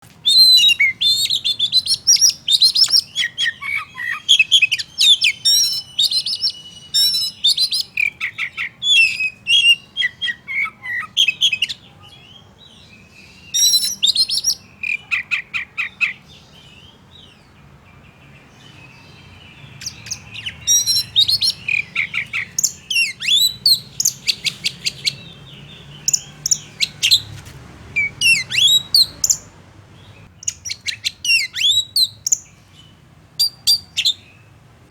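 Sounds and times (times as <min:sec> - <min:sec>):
bird singing whistles and chirps: 0:00.2 - 0:17.4, 0:18.6 - 0:27.3, 0:28.0 - 0:29.5, 0:30.1 - 0:34.5.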